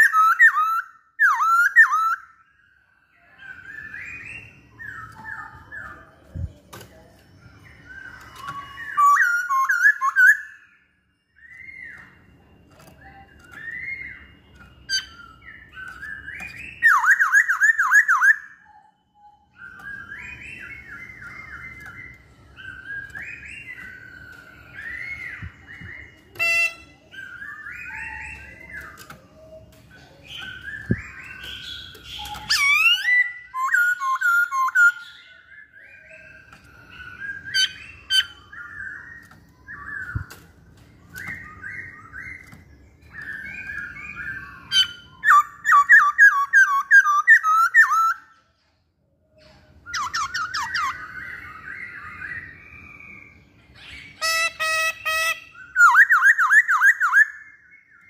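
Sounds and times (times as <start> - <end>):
bird singing whistled phrases: 0.0 - 48.4, 49.3 - 58.0.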